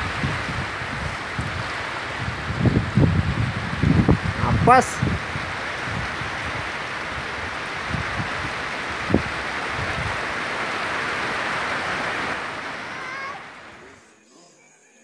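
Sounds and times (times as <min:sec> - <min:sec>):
heavy rain on water: 0:00.0 - 0:14.0.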